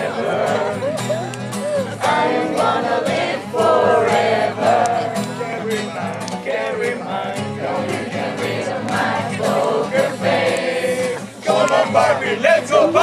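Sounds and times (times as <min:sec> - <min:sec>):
group of people singing: 0:00.0 - 0:13.0.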